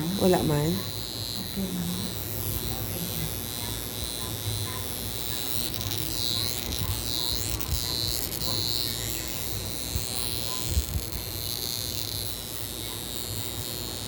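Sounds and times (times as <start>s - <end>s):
electric facial device buzzing: 0.0s - 14.0s.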